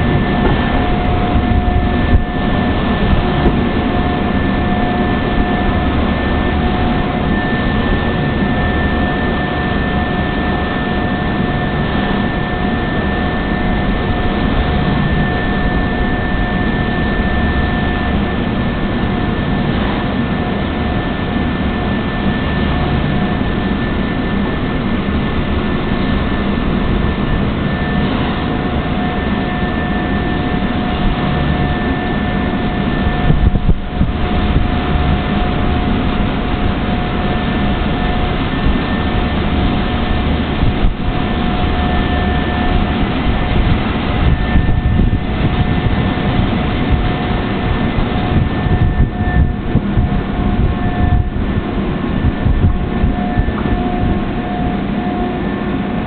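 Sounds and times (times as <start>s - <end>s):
steady whining tones: 0.0s - 56.0s
train washing machine rushing: 0.0s - 56.0s.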